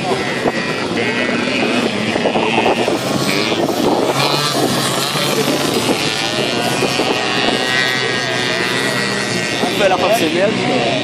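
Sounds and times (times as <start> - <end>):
moped engines revving: 0.0 - 11.0
moped passing close by: 0.0 - 11.0.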